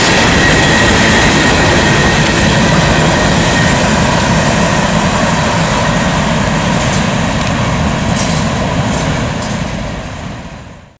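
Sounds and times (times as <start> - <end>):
freight train rolling past: 0.0 - 10.9.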